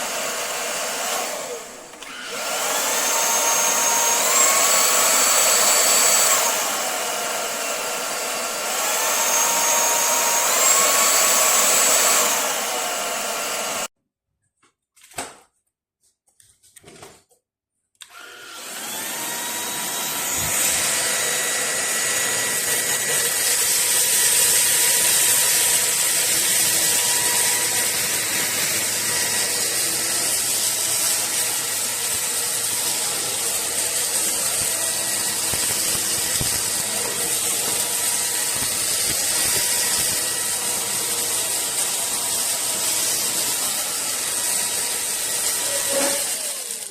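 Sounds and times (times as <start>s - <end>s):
stick vacuum running: 0.0s - 13.9s, 18.0s - 46.9s.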